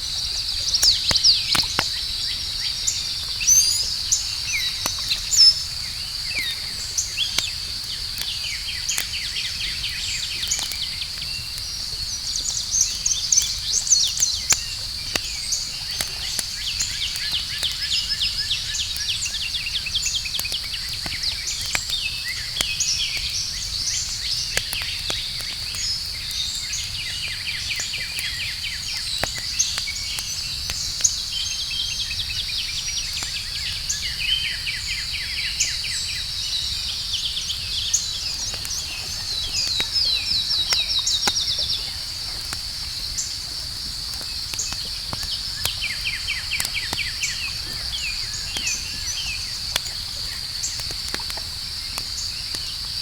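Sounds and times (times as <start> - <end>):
campfire crackling and popping: 0.1 - 53.0.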